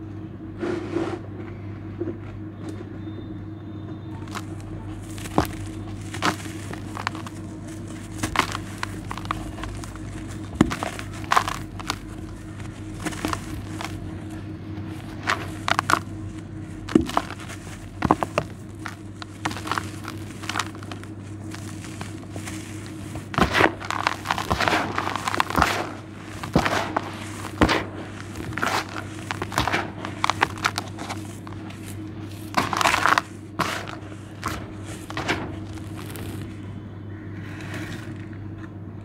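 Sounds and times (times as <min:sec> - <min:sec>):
low hum: 0:01.3 - 0:39.0
charcoal and stones crunching: 0:04.2 - 0:36.8.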